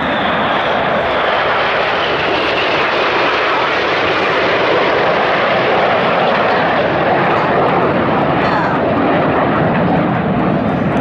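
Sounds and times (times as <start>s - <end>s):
jets flying past overhead: 0.0s - 11.0s.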